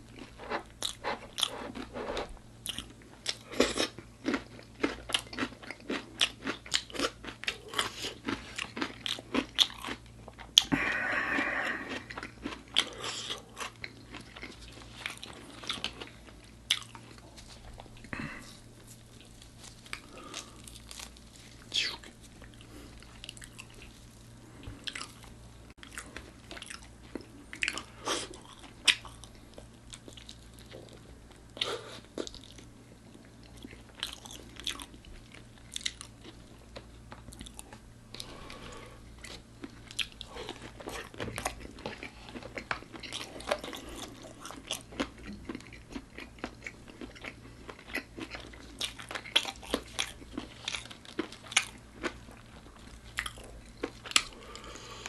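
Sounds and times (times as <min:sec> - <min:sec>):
wet chewing: 0:00.1 - 0:32.7, 0:33.4 - 0:55.0.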